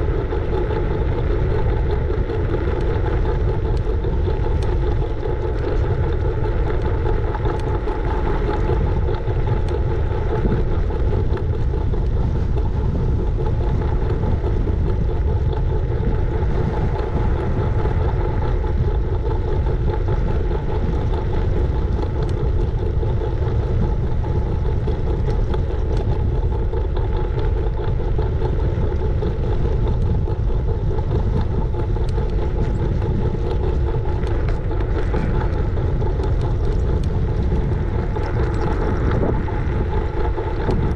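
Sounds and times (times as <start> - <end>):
faint steady whine: 0.0 - 40.9
scooter wheels rolling on road: 0.0 - 40.9
wind on microphone: 0.0 - 40.9.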